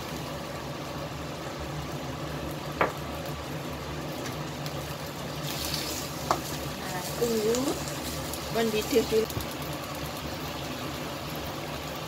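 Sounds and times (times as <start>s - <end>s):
curry simmering hiss: 0.0s - 12.0s.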